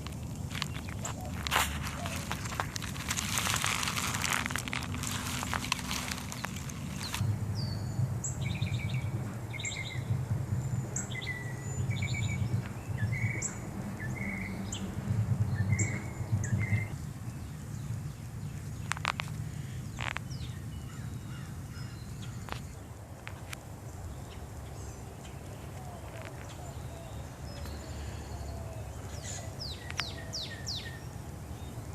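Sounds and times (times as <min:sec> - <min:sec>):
small birds chirping: 0:00.0 - 0:31.9
wind buffeting microphone: 0:00.0 - 0:31.9.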